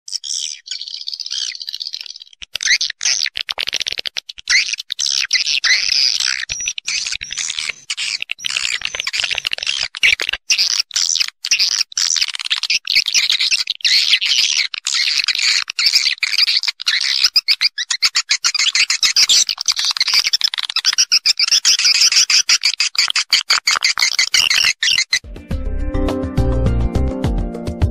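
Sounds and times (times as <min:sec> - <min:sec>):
swiftlets chirping: 0:00.1 - 0:25.3.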